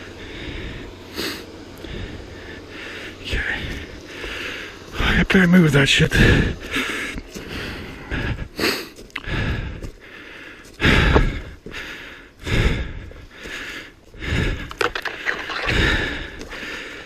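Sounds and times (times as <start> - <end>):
person breathing hard: 0.0 - 5.2, 6.1 - 17.0.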